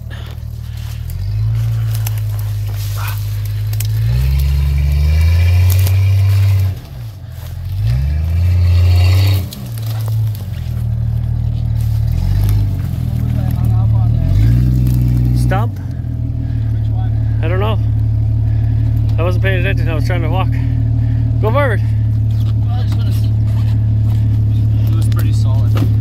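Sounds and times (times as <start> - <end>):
engine revving under load: 0.0 - 26.0.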